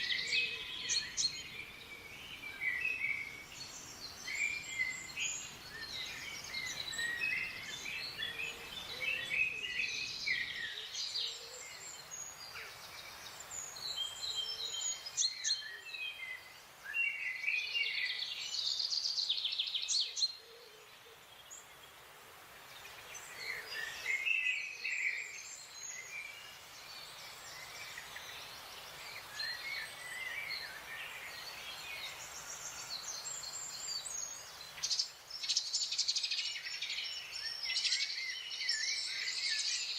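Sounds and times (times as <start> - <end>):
songbirds chirping and calling: 0.0 - 39.9.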